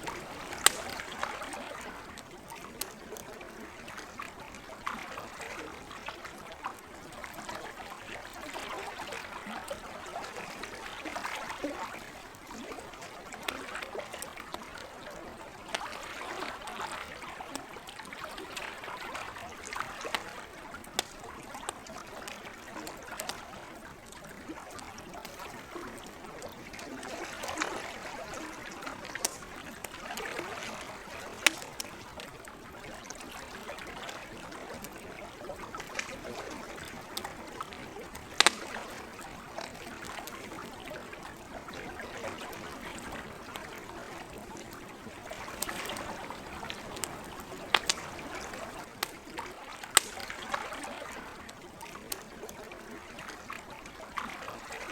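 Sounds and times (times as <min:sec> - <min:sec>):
campfire crackling and popping: 0:00.0 - 0:53.1
lake water washing: 0:00.0 - 0:54.9.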